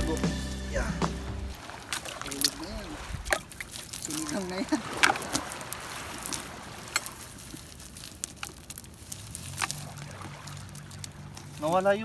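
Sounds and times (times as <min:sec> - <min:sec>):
wet net rustling: 0:01.5 - 0:12.0.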